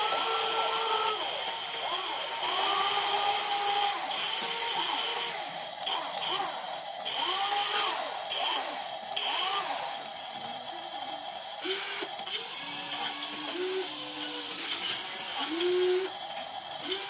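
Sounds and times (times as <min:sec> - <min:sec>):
small electric motors whining: 0:00.0 - 0:10.2, 0:11.6 - 0:17.0.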